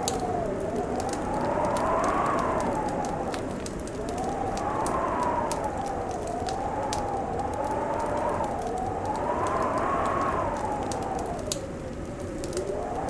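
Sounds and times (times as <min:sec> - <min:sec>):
wind howling: 0:00.0 - 0:13.0
wood fire crackling and popping: 0:00.0 - 0:13.0.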